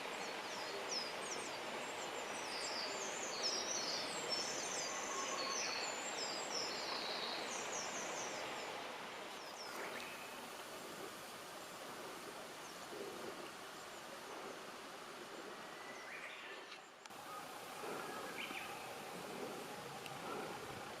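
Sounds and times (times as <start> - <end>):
outdoor background hiss: 0.0 - 21.0
small birds chirping: 0.0 - 21.0.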